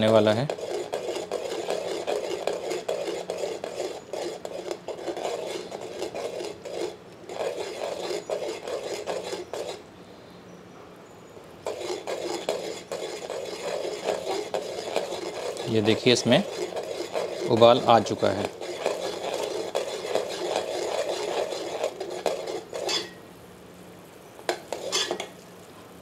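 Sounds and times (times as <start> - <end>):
metal ladle scraping a pot: 0.0 - 9.8, 11.6 - 23.2, 24.5 - 25.3.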